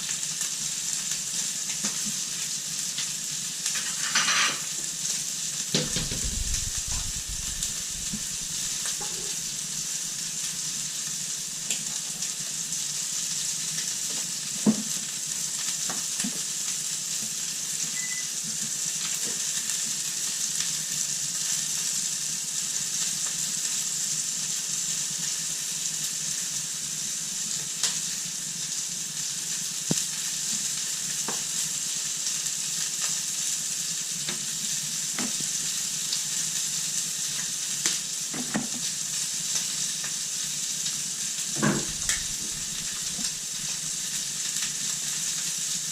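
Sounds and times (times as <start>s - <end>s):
food sizzling in a frying pan: 0.0s - 45.9s.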